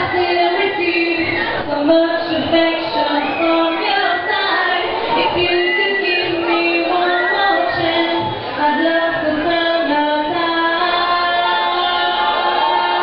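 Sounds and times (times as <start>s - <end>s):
high voices singing: 0.0s - 13.0s.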